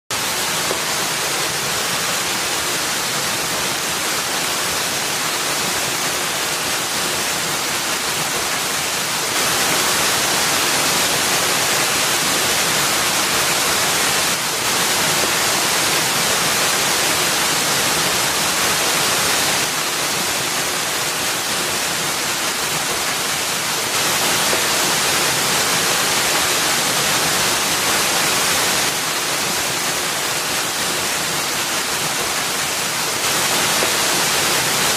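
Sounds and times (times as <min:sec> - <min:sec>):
waterfall rushing onto rock: 0:00.1 - 0:34.9.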